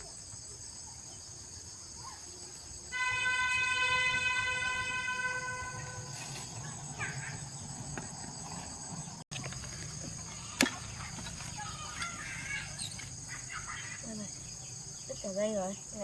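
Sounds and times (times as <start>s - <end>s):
crickets buzzing: 0.0s - 16.0s.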